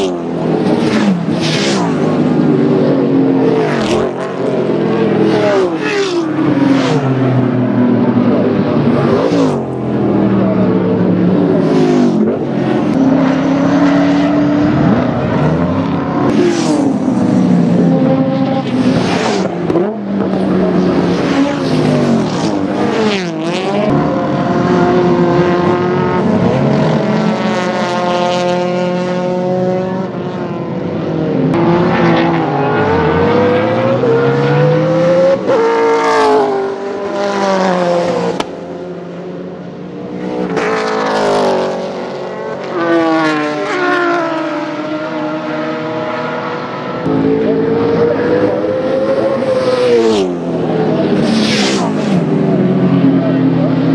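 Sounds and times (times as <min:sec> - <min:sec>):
race car engines passing: 0:00.0 - 0:53.9.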